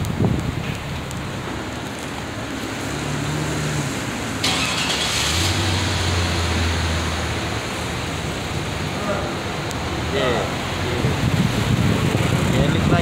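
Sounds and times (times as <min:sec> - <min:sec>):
car engine hum: 0:00.0 - 0:13.0
tyre hiss on wet street: 0:00.0 - 0:13.0.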